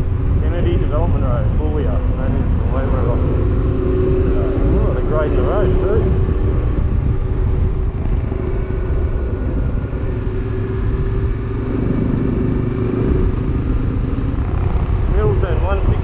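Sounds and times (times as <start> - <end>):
low wind rumble: 0.0 - 16.0
motorcycle engine cruising: 0.0 - 16.0.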